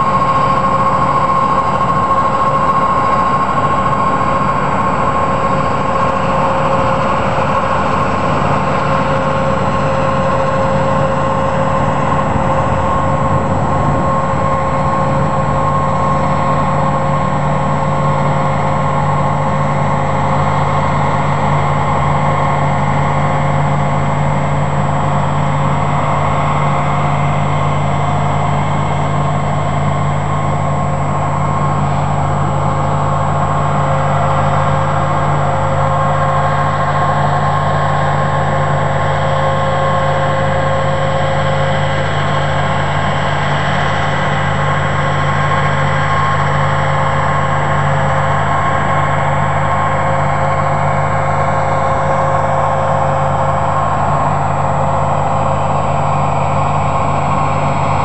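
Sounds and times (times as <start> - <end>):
combine harvester engine drone: 0.0 - 58.0
machinery whine: 0.0 - 58.0.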